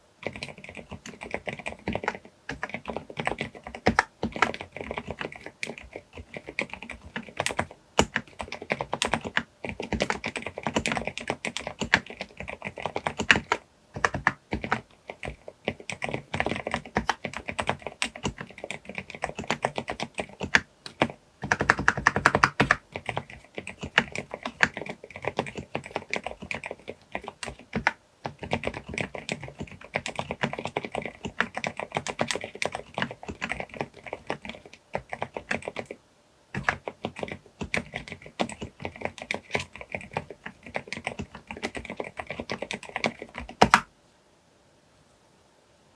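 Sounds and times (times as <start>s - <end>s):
typing on mechanical keyboard: 0.2s - 43.9s.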